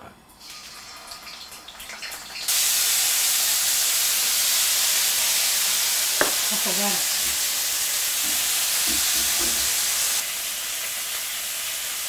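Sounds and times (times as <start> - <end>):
chicken wings sizzling in oil: 0.4 - 12.0.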